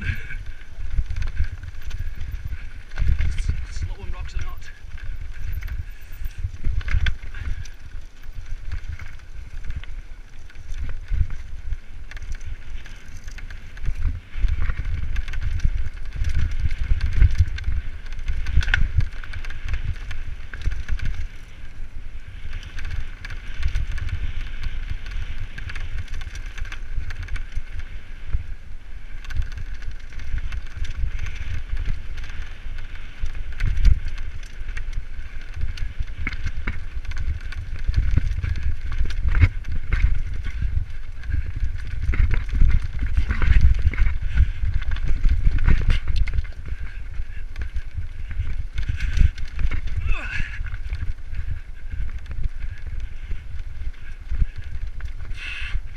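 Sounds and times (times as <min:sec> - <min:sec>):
mountain bike rattling over stones: 0:00.0 - 0:55.9
wind buffeting microphone: 0:00.0 - 0:55.9.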